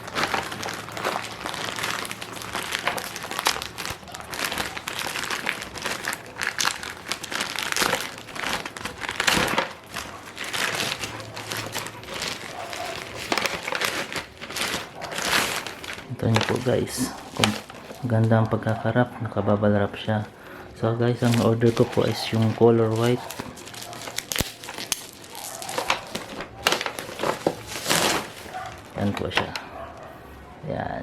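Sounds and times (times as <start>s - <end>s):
plastic packaging crinkling: 0.0s - 30.2s.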